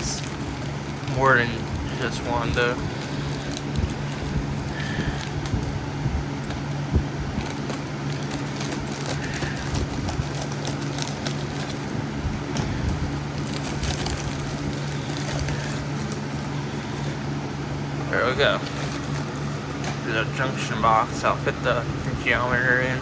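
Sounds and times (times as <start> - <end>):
plastic packaging crackling: 0.0 - 20.6
low background hum: 0.0 - 23.0.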